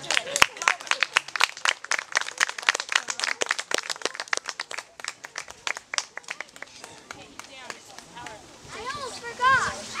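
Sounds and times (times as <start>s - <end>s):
small audience clapping: 0.0s - 8.4s.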